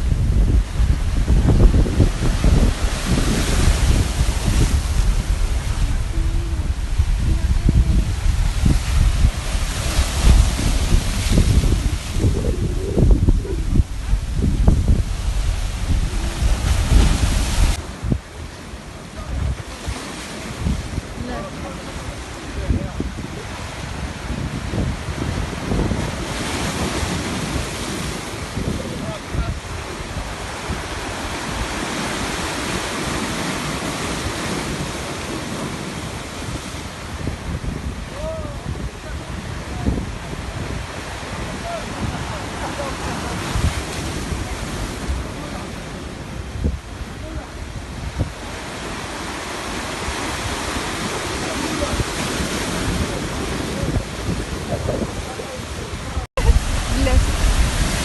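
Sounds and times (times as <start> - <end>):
sea waves washing: 0.0 - 58.0
wind rumbling on microphone: 0.0 - 58.0.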